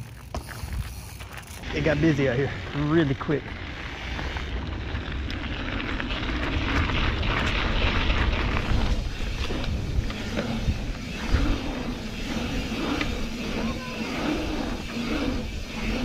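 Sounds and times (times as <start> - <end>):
bike tyres crunching on gravel: 0.0 - 16.0
tyres rolling hum on asphalt: 0.0 - 16.0
wind rumbling on microphone: 1.6 - 16.0.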